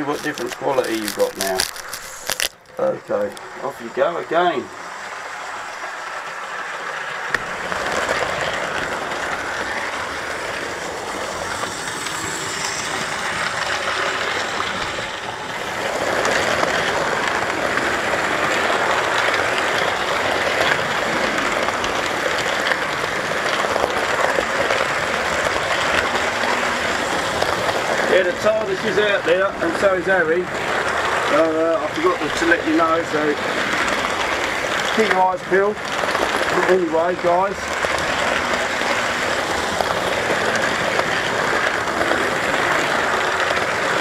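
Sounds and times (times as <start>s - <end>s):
model train wheels rolling on rail: 0.0s - 44.0s.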